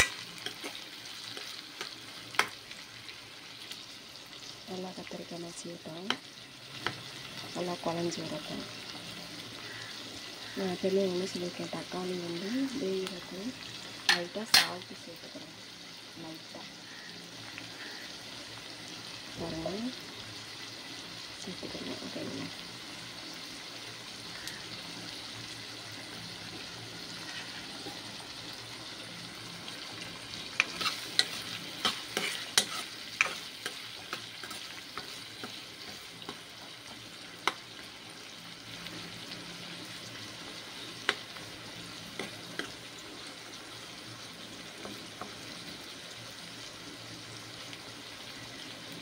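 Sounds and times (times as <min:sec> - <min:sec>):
vegetables sizzling in oil: 0:00.0 - 0:49.0.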